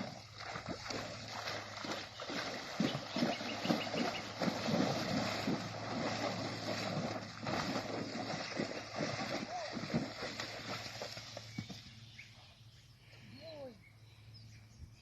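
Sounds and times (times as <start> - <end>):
horse hoofbeats: 0.0 - 12.0.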